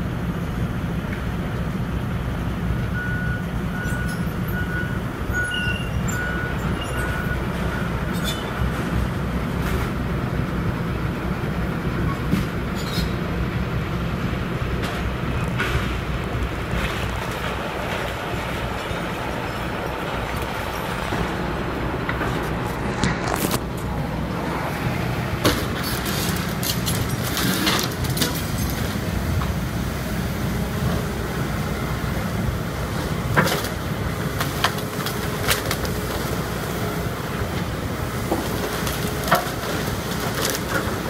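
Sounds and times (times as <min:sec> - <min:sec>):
excavator diesel engines running: 0:00.0 - 0:41.0.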